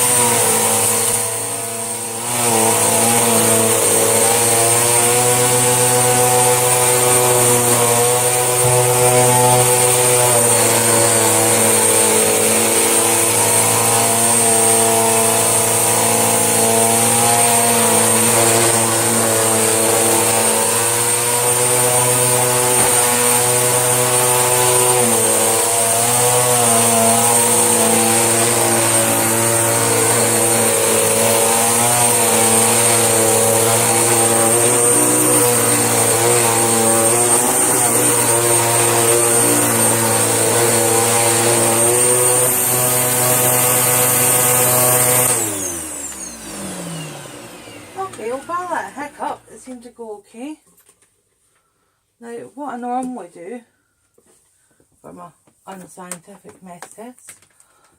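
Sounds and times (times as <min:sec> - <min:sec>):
vacuum cleaner whining: 0:00.0 - 0:49.9.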